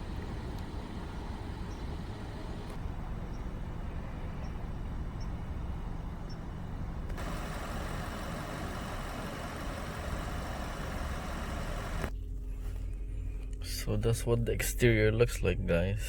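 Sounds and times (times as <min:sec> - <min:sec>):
low rumble of vehicle noise: 0:00.0 - 0:16.0.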